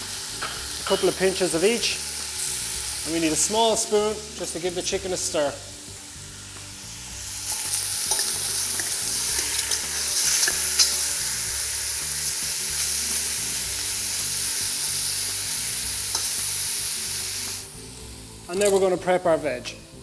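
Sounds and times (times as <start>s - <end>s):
chicken sizzling in hot oil: 0.0s - 18.5s.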